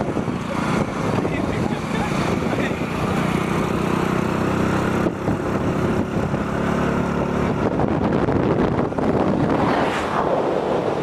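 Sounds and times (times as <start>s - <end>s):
wind rushing over microphone: 0.0s - 3.9s, 4.6s - 11.0s
motorcycle engine running: 0.0s - 9.6s.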